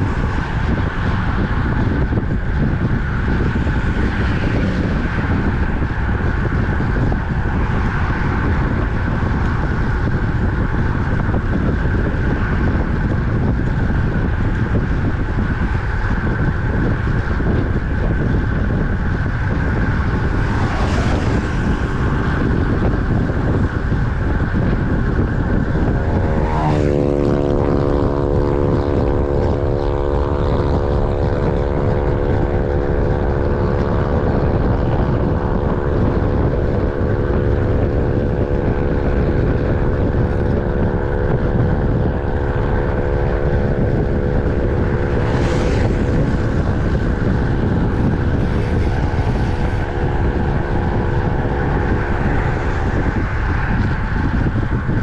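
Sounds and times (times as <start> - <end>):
humming drone: 0.0 - 55.0
wind rush on microphone: 0.0 - 55.0.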